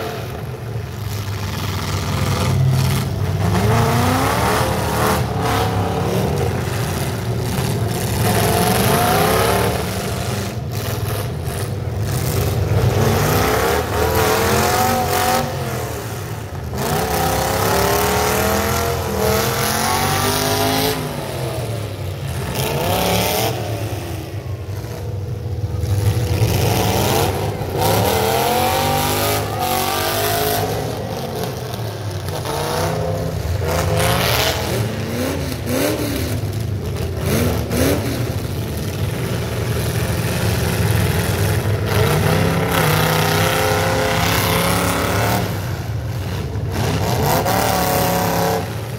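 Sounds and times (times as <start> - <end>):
truck engines revving: 0.0 - 48.9.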